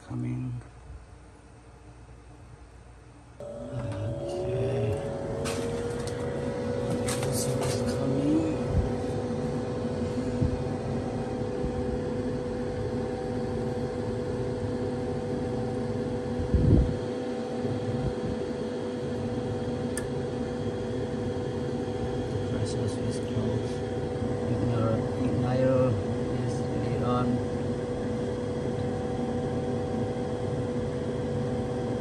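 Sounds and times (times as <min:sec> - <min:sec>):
motor whine and hum: 0:00.0 - 0:32.0.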